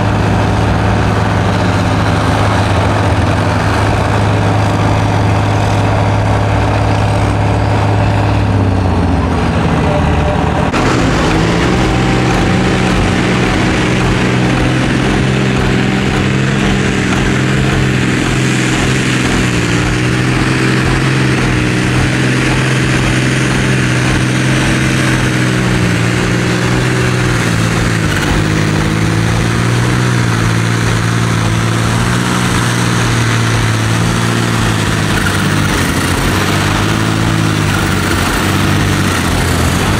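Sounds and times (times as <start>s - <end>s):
tractor engine under heavy load: 0.0s - 39.9s.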